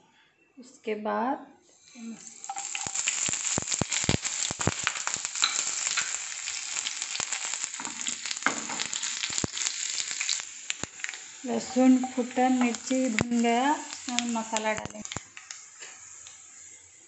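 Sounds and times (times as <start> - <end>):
spices sizzling in hot oil: 1.8 - 17.0
sharp pops and crackles: 1.9 - 16.5.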